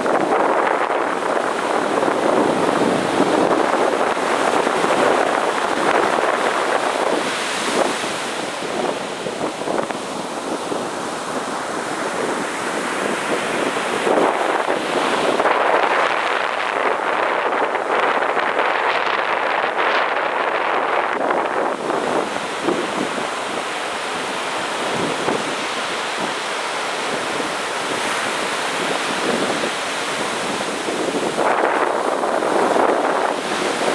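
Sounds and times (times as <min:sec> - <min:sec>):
ocean surf breaking on beach: 0:00.0 - 0:33.9
wind buffeting microphone: 0:00.0 - 0:33.9.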